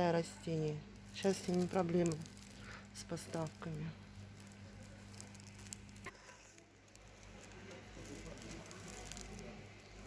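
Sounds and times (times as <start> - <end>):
low electrical hum: 0.0 - 10.0
light ticks and rustles: 0.6 - 10.0.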